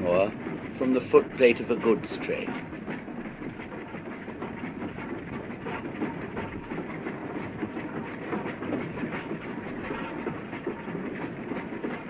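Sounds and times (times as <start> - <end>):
train rumble: 0.0 - 12.0
wheels clattering over rail joints: 0.0 - 12.0.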